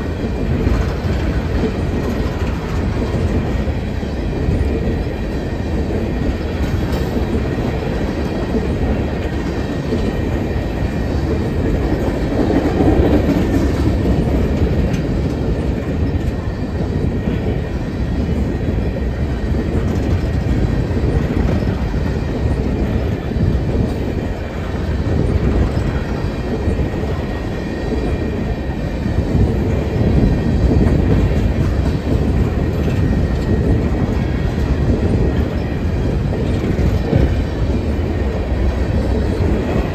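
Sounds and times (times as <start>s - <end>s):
rapid clatter of train cars: 0.0s - 39.9s
steel train wheels rumbling on rails: 0.0s - 39.9s.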